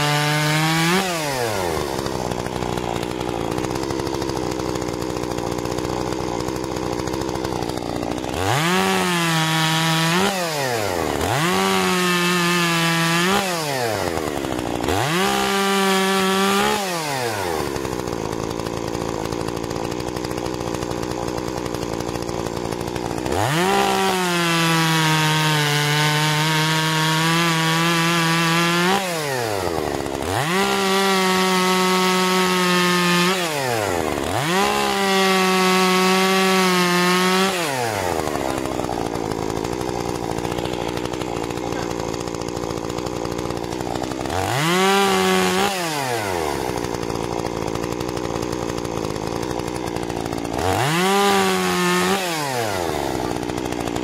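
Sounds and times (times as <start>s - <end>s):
chainsaw cutting logs: 0.0s - 54.0s
chainsaw engine revving: 0.0s - 54.0s.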